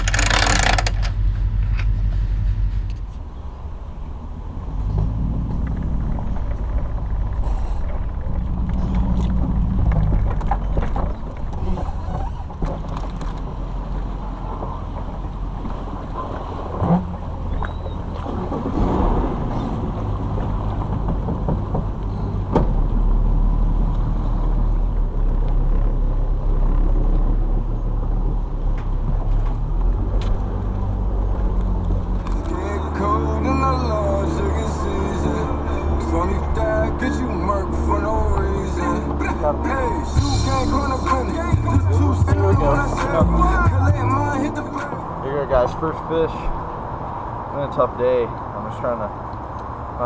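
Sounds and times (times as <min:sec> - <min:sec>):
boat engine rumbling: 0:00.0 - 0:50.0.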